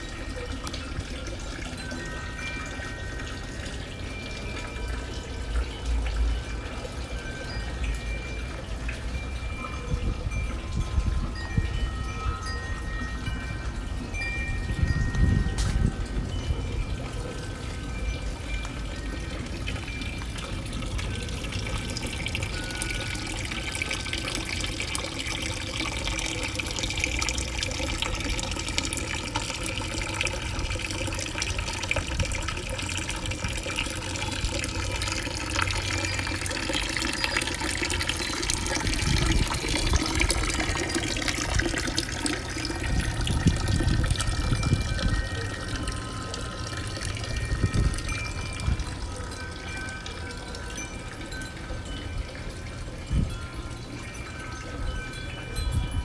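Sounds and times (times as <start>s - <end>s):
fountain water splashing into basin: 0.0s - 56.0s.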